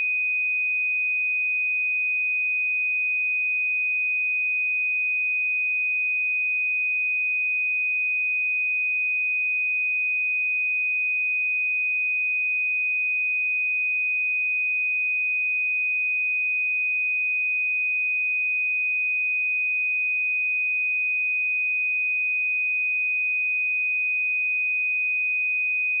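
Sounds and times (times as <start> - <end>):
sine-wave test tone: 0.0 - 26.0.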